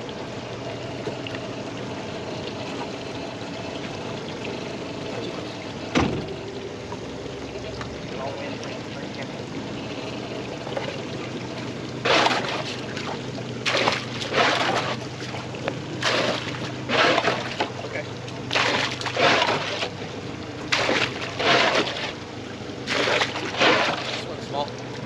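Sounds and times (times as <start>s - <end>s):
boat engine hum: 0.0s - 25.0s
water splashing against hull: 0.0s - 25.0s.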